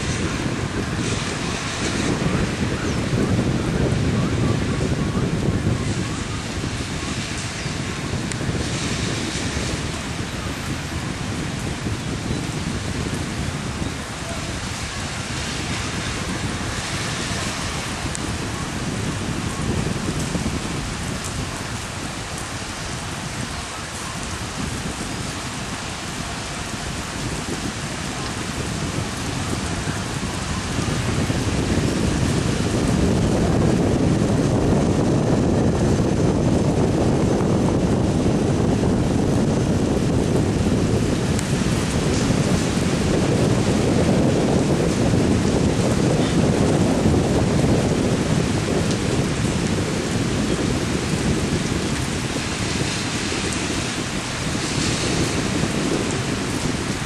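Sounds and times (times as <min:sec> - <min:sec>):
heavy rain: 0:00.0 - 0:57.0
wind buffeting microphone: 0:00.0 - 0:57.0.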